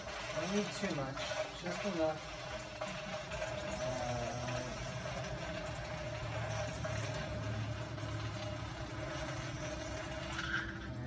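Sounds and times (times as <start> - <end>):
bicycle chain whirring through cleaner: 0.0 - 11.0.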